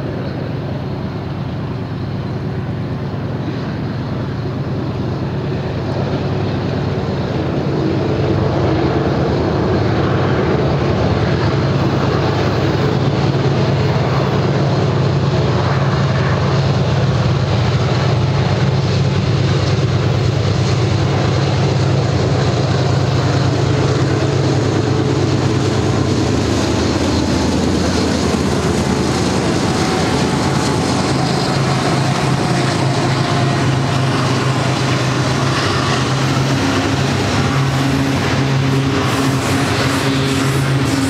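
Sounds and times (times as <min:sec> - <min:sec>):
diesel locomotive engine drone: 0:00.0 - 0:41.0
train cars rumbling on rails: 0:00.0 - 0:41.0.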